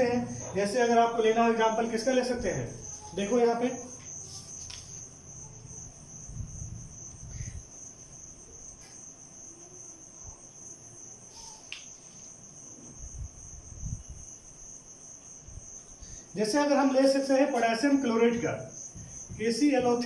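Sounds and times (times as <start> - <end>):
cricket trilling: 0.0 - 20.0.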